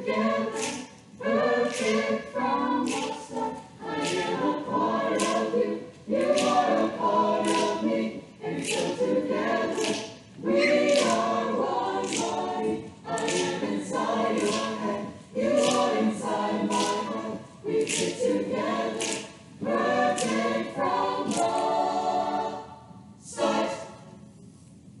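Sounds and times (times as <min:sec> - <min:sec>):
chamber choir singing: 0:00.0 - 0:24.2.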